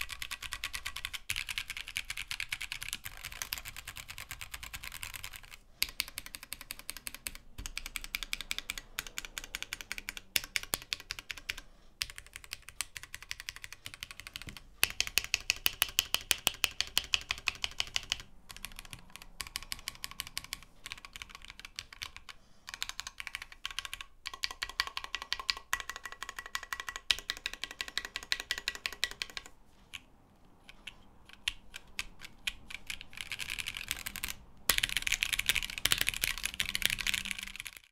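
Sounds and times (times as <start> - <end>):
mechanical keyboard typing: 0.0 - 37.9.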